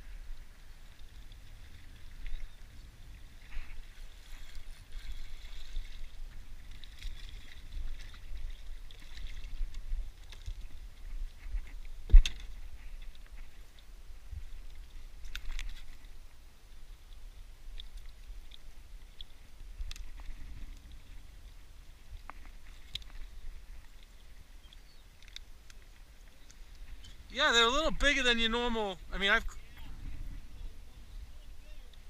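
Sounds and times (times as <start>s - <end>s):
water lapping at dock: 0.0s - 32.0s
wind rumbling on microphone: 0.0s - 32.0s.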